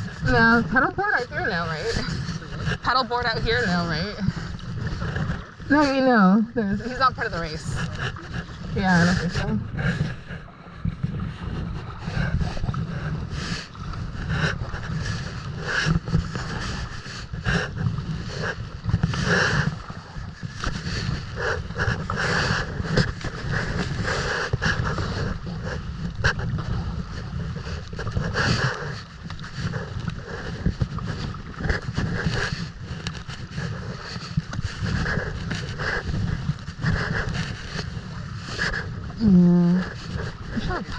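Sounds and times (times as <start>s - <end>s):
water splashing around kayak: 0.0s - 40.9s
wind buffeting microphone: 0.0s - 40.9s.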